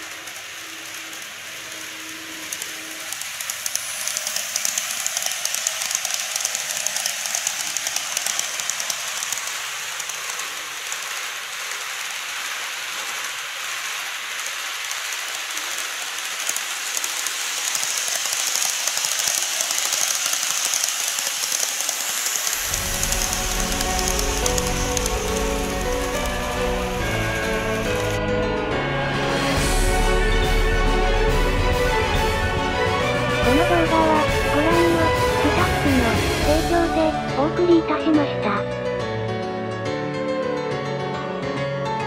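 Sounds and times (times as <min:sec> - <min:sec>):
model trains running on track: 0:00.0 - 0:38.6.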